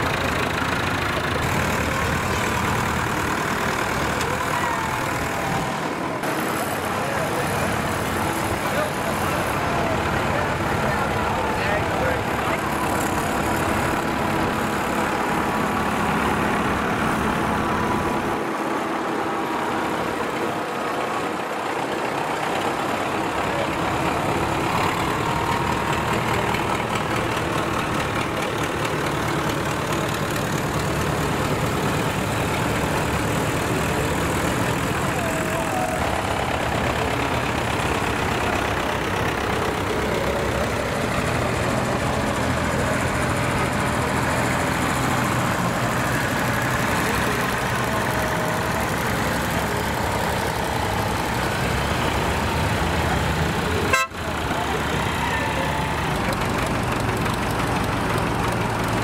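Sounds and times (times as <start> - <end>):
engines idling: 0.0 - 59.0.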